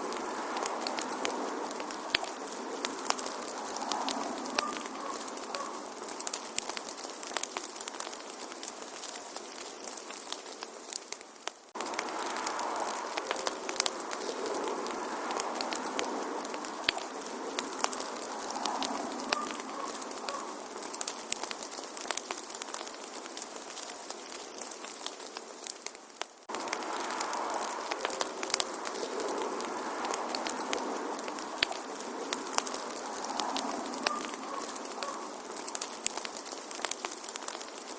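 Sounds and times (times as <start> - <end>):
wood fire crackling and popping: 0.0 - 37.9.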